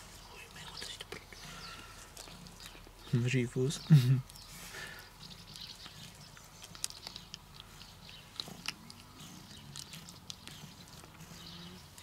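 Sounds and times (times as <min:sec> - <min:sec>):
kitten crunching dry kibble: 0:00.5 - 0:03.1, 0:04.2 - 0:12.0.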